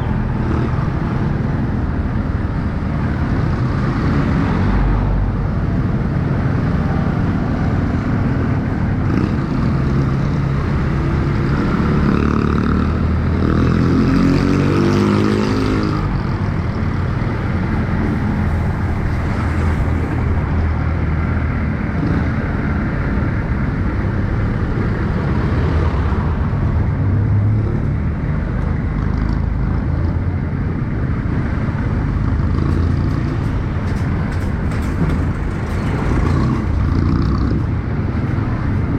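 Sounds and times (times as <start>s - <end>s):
road rumble: 0.0s - 38.9s.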